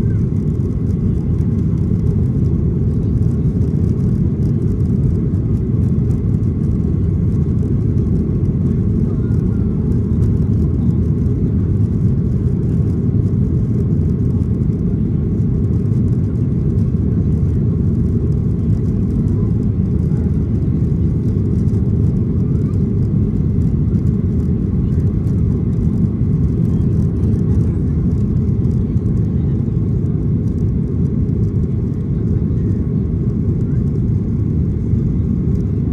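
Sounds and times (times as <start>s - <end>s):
jet engines rumbling: 0.0s - 35.9s.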